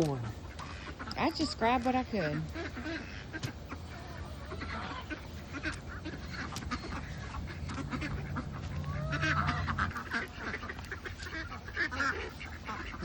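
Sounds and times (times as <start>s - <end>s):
ducks quacking: 0.0s - 13.0s
steady low hum: 0.0s - 13.0s.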